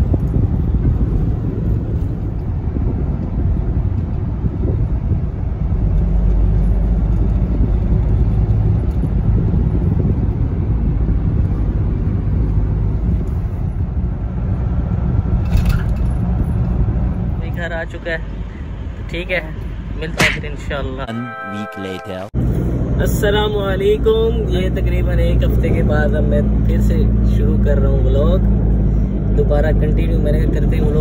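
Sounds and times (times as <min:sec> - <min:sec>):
car engine and tyres rumbling: 0:00.0 - 0:21.1, 0:22.4 - 0:31.0.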